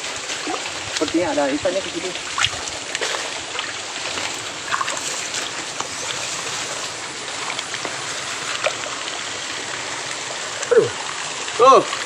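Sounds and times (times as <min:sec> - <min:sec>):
running water rushing: 0:00.0 - 0:12.0
small splashes: 0:00.0 - 0:12.0
swamp water sloshing: 0:00.0 - 0:12.0.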